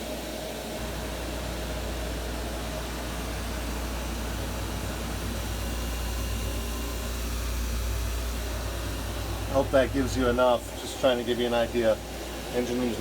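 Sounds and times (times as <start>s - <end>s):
engine room machinery drone: 0.0s - 13.0s.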